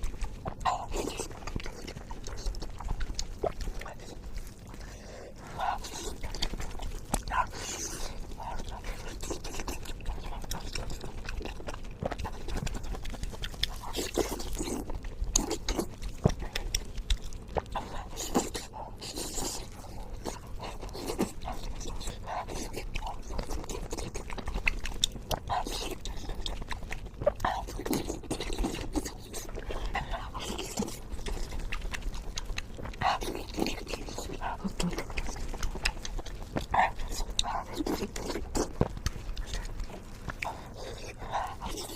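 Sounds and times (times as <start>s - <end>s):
wet chewing and smacking: 0.0s - 41.9s.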